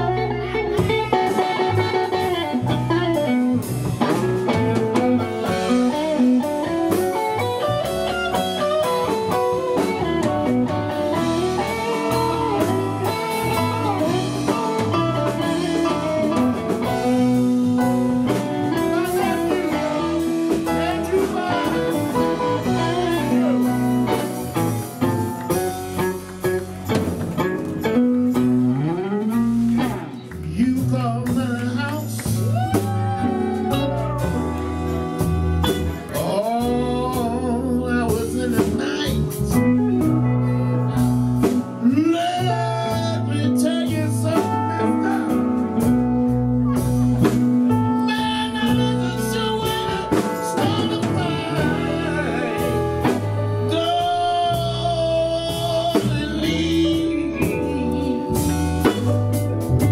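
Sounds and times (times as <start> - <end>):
guitar lead lines: 0.0 - 59.9
live blues band playing: 0.0 - 59.9.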